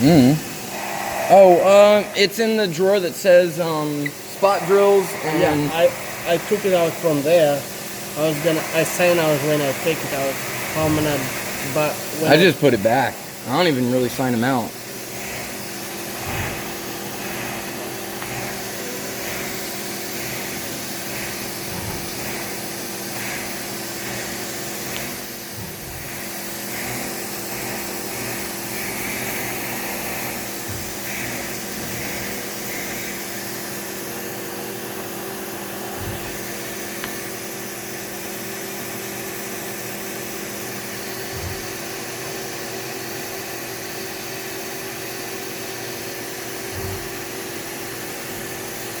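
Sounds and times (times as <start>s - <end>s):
cnc mill humming and hissing: 0.0s - 49.0s.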